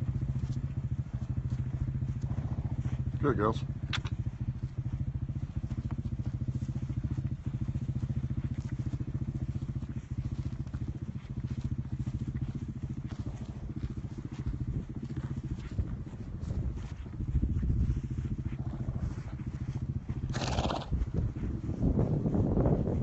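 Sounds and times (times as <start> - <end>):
low pulsing engine drone: 0.0 - 23.0.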